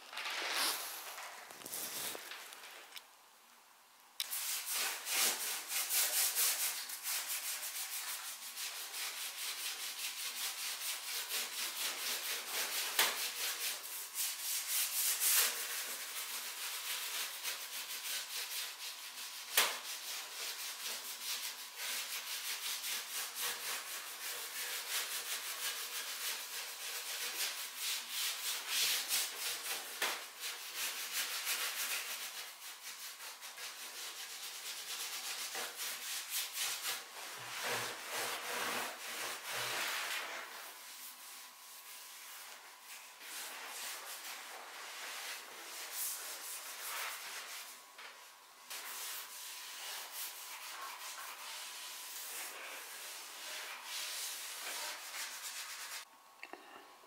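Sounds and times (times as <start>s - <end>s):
hand-sanding wood: 4.2s - 47.8s, 48.7s - 56.1s.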